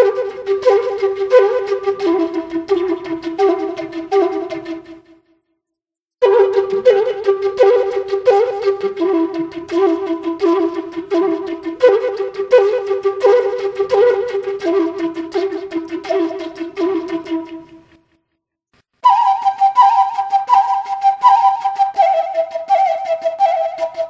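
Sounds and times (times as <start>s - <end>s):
bamboo flute melody: 0.0s - 5.3s, 6.2s - 18.0s, 19.0s - 24.0s.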